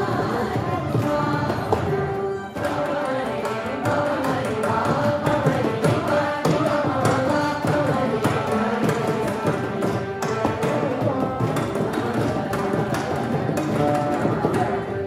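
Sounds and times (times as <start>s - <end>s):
group singing in unison: 0.0s - 15.0s
mridangam strokes: 0.0s - 15.0s
veena: 0.0s - 15.0s.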